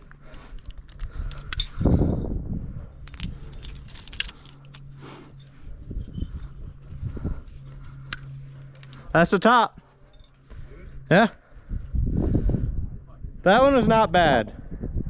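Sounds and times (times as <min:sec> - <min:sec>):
metal climbing gear clinking: 0:00.0 - 0:12.9
low rumble: 0:00.0 - 0:15.0.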